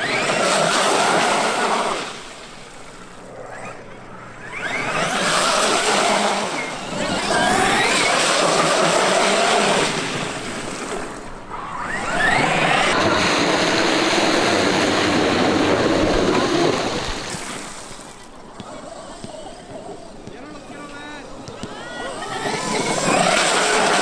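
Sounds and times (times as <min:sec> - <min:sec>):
rc truck electric motor whining: 0:00.0 - 0:24.0
steady rushing noise: 0:00.0 - 0:24.0.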